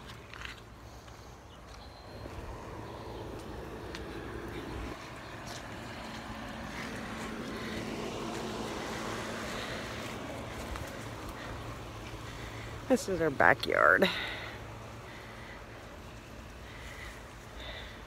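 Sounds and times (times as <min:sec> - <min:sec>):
distant engine hum: 0:00.0 - 0:18.0.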